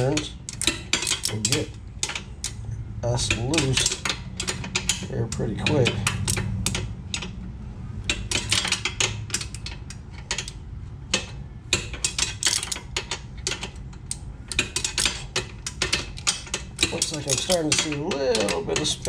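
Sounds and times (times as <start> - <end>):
wrench clicking on nut: 0.0 - 2.6, 3.2 - 7.4, 8.0 - 19.0
low steady hum: 0.0 - 19.0.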